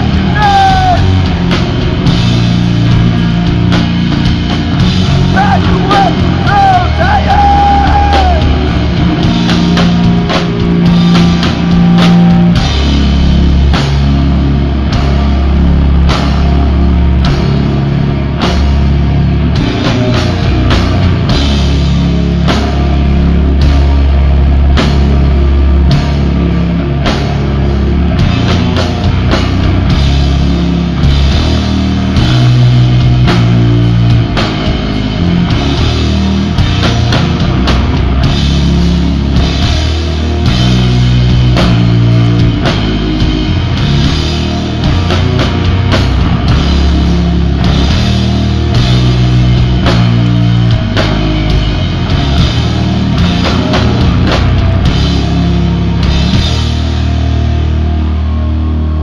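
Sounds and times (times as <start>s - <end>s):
bass riffs: 0.0s - 59.0s
distorted electric guitar: 0.0s - 59.0s
drum kit: 0.0s - 59.0s.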